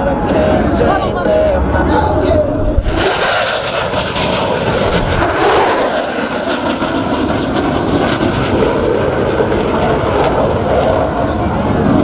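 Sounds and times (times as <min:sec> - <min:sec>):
loud jet noise: 0:00.0 - 0:12.0.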